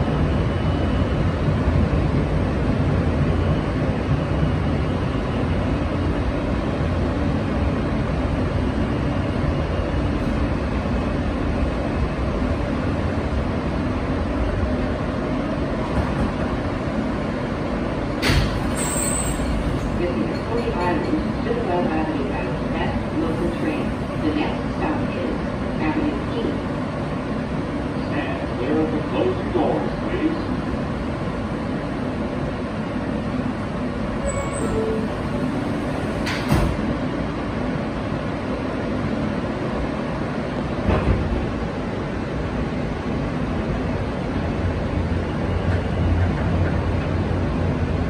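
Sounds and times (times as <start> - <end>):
subway car rumbling and braking: 0.0 - 48.0
train hum: 0.0 - 48.0.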